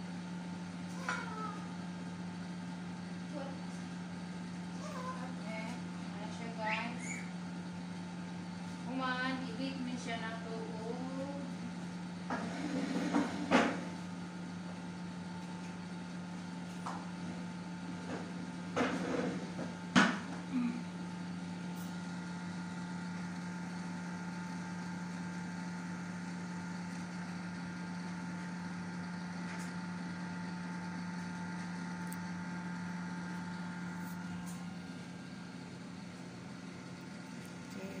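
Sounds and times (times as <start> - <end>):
kitchen appliance humming: 0.0 - 38.0.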